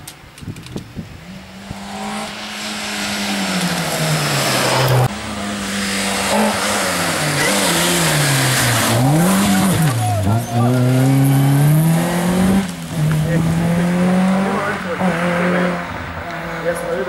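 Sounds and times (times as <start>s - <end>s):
rally car engine revving: 1.2s - 17.0s.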